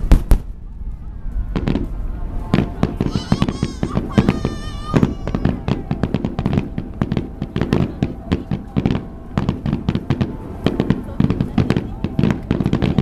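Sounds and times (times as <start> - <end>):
fireworks bangs and crackles: 0.0 - 0.6, 1.5 - 13.0
low rumbling echo: 0.0 - 13.0.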